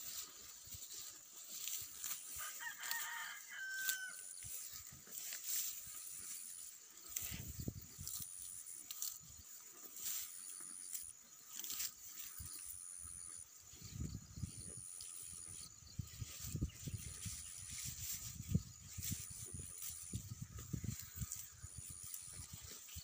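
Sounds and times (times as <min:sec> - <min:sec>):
cow tearing grass: 0:00.0 - 0:12.7, 0:15.0 - 0:23.0.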